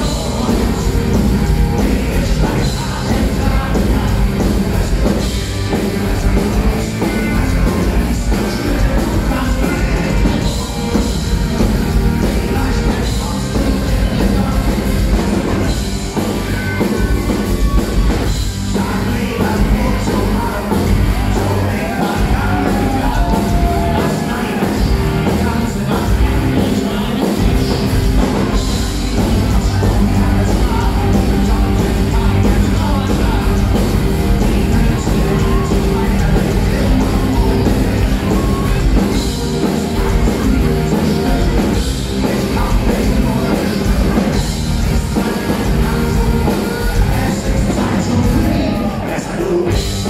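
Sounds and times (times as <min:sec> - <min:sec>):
distorted electric guitars: 0:00.0 - 0:50.0
drums: 0:00.0 - 0:50.0
lead singer: 0:00.0 - 0:50.0.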